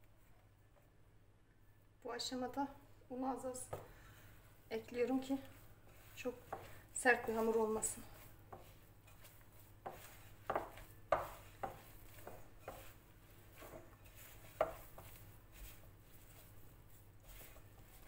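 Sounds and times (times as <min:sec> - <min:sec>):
dough squishing: 0:03.2 - 0:18.0.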